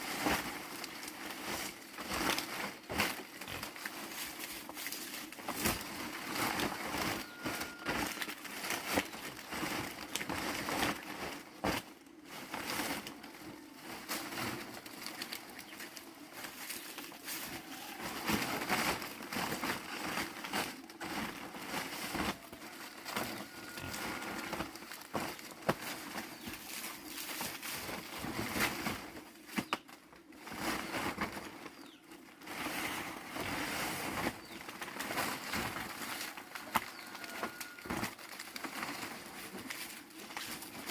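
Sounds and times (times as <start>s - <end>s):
rustling and crinkling: 0.0s - 40.9s.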